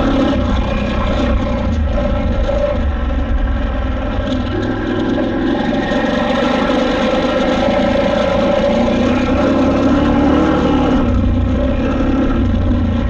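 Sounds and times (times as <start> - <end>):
motorcycle engine riding: 0.0 - 13.0.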